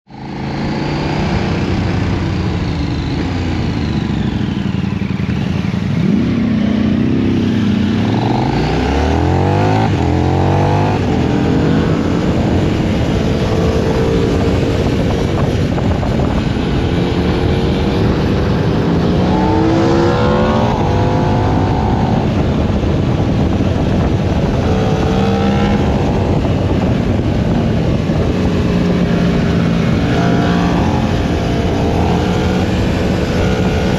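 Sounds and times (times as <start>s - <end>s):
motorcycle engine revving: 0.1s - 33.9s
wind and road noise: 0.1s - 33.9s.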